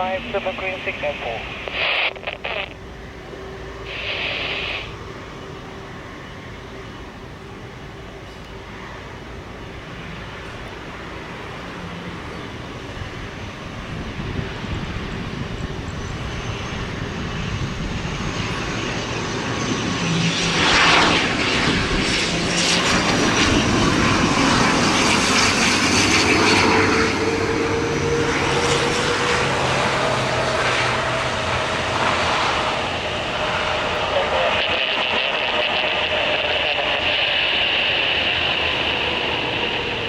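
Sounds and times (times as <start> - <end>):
turboprop airliner passing: 0.0 - 40.0.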